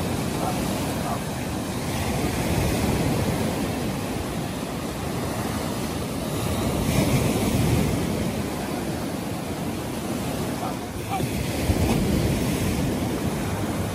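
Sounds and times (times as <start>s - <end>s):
surf breaking on beach: 0.0s - 13.9s.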